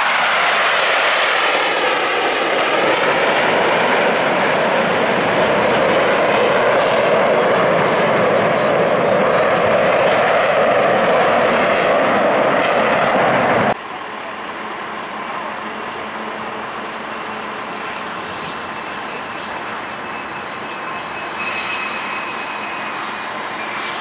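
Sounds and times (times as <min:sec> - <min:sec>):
jet engine with high whine: 0:00.0 - 0:24.0
loud jet flying: 0:00.0 - 0:24.0.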